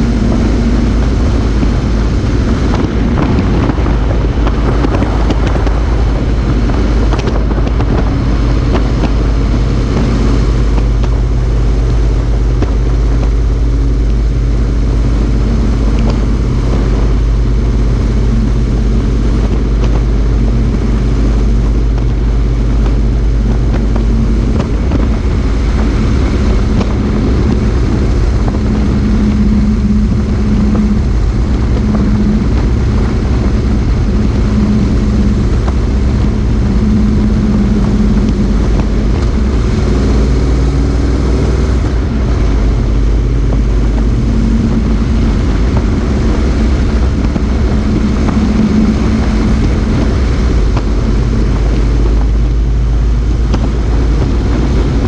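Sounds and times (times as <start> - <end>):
motorcycle engine drone: 0.0 - 55.0
wind and road noise: 0.0 - 55.0.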